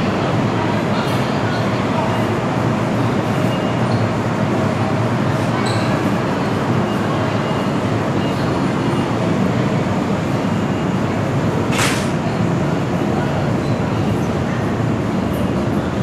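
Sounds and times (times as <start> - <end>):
electric train rumble and hiss: 0.0 - 16.0.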